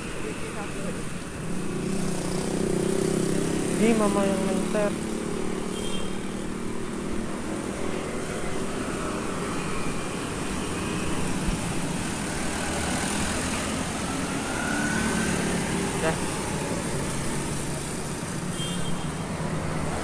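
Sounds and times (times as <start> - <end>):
cars and motorcycles passing: 0.0 - 20.0.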